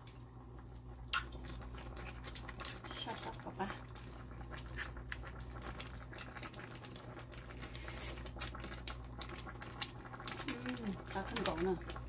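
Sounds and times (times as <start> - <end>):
sauce simmering in a pan: 0.0 - 12.0.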